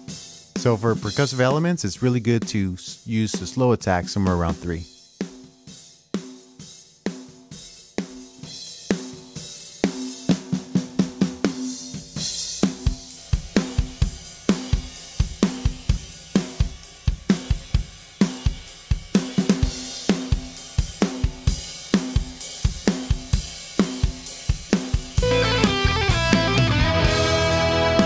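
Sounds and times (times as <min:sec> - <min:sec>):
drum kit groove: 0:00.0 - 0:28.0.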